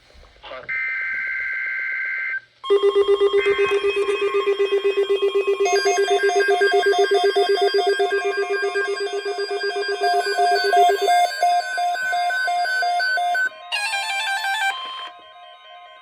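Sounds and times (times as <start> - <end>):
higher-pitched beeping alarm: 2.6 - 16.0
rapid electronic beeping alarms: 2.6 - 16.0
steady warning alarm tone: 2.6 - 16.0.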